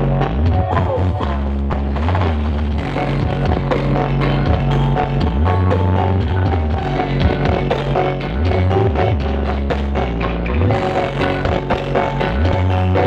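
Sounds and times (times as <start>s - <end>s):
drums: 0.0s - 13.0s
heavy bass notes: 0.0s - 13.0s
loud band music: 2.0s - 13.0s.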